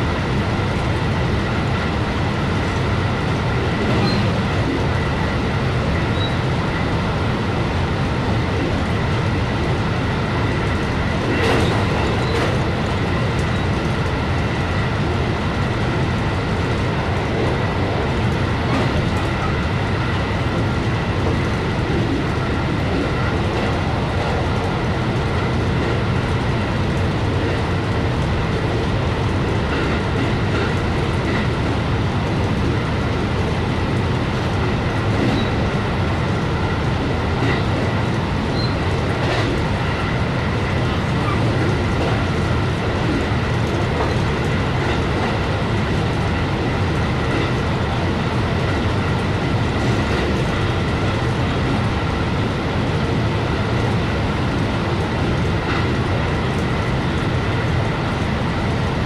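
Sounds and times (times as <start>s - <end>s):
train clatter: 0.0s - 59.0s
train wheels rumbling on rail: 0.0s - 59.0s.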